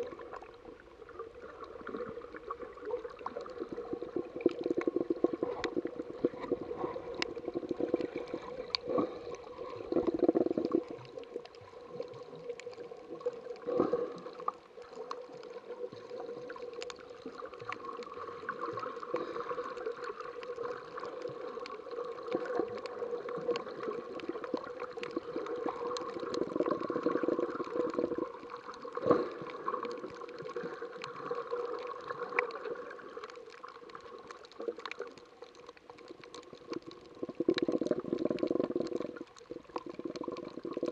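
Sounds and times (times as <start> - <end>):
water sloshing underwater: 0.0 - 40.9
sharp clicks and crackles: 3.0 - 40.9.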